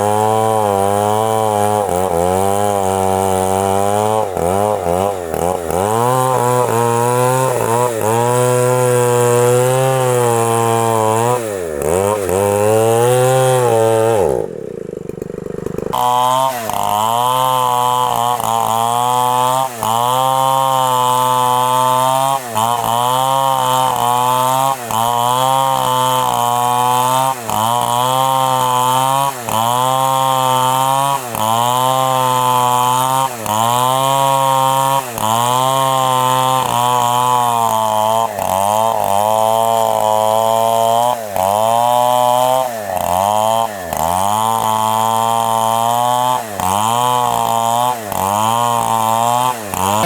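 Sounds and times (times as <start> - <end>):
chainsaw cutting tree trunk: 0.0 - 50.0.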